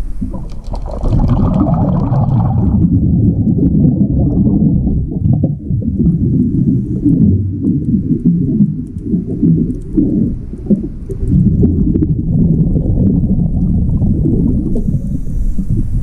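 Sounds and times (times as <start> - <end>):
underwater bubbles rumbling: 0.0 - 16.0.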